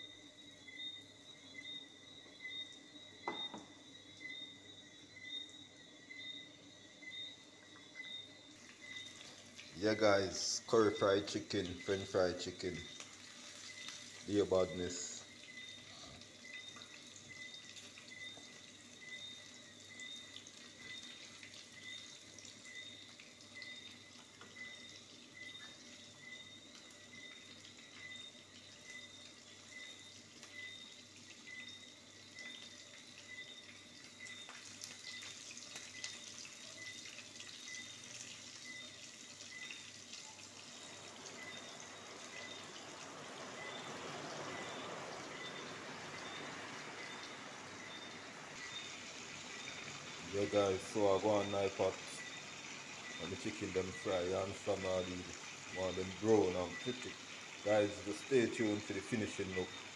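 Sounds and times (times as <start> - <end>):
chicken frying in hot oil: 0.0 - 59.9.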